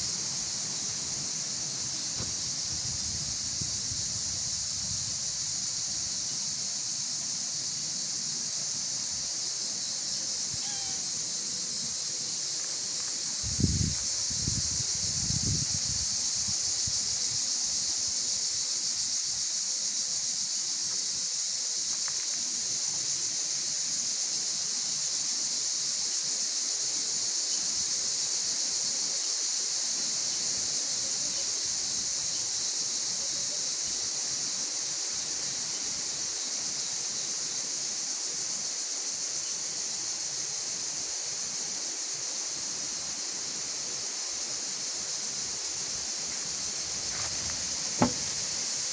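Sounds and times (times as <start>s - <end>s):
steady high-pitched hiss: 0.0s - 48.9s.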